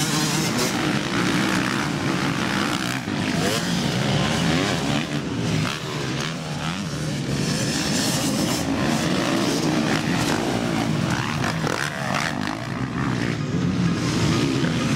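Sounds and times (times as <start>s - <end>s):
motocross bikes revving: 0.0s - 14.9s.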